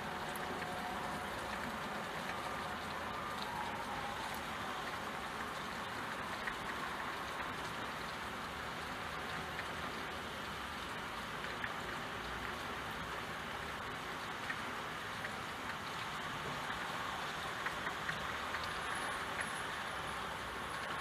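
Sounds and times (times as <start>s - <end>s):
rain pattering on window glass: 0.0s - 21.0s
single raindrops ticking: 0.0s - 21.0s.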